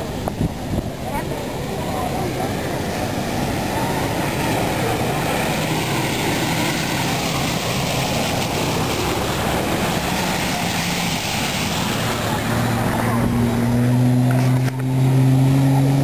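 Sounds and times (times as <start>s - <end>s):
vehicle engines running: 0.0s - 16.0s
water splashing around wheels: 0.0s - 16.0s.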